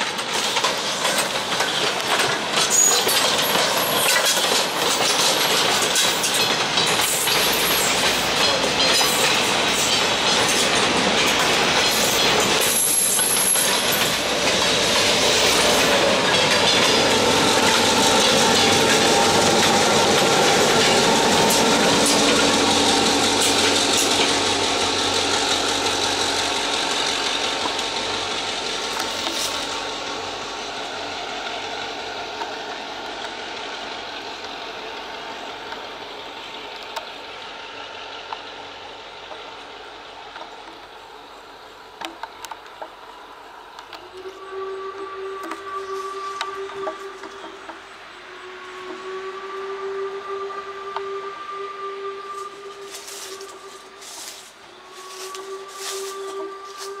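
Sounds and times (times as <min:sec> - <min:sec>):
train wheels clicking over rail joints: 0:00.0 - 0:44.4, 0:45.1 - 0:49.1
train rumbling past: 0:00.0 - 0:57.0.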